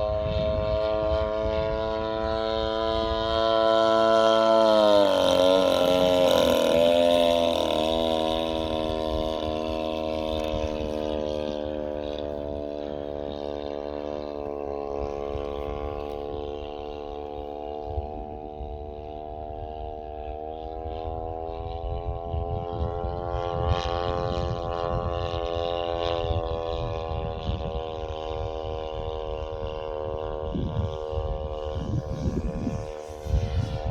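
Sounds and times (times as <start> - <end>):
model plane engine droning: 0.0 - 33.9.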